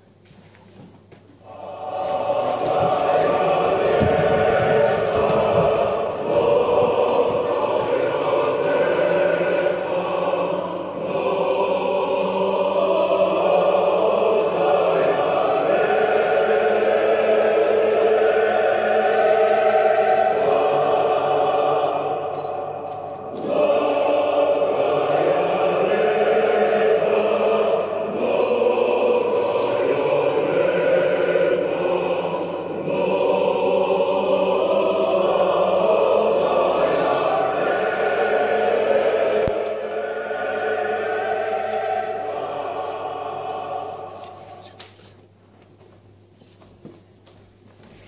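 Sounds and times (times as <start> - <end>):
choir singing: 1.4 - 45.4.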